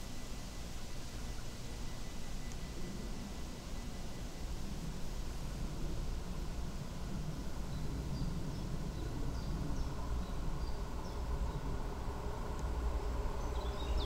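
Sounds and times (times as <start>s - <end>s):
distant high-speed train rumble: 0.0s - 14.0s.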